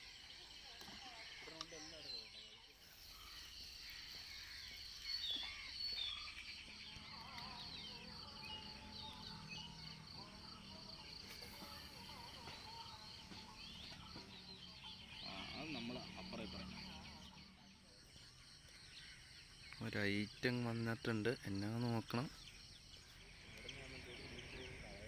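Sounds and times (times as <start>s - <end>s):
pulsing insect drone: 0.0s - 25.0s
small birds chirping: 0.0s - 25.0s.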